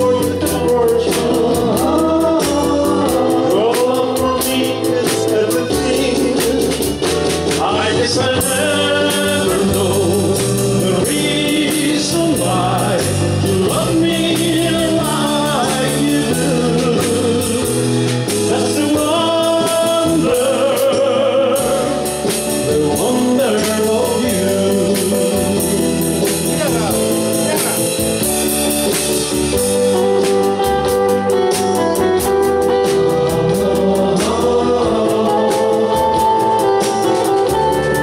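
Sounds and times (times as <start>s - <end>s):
man singing into a microphone: 0.0s - 27.9s, 32.6s - 38.0s
drums with steady cymbal beat: 0.0s - 38.0s
electric bass: 0.0s - 38.0s
electric guitar: 0.0s - 38.0s
live band playing: 0.0s - 38.0s.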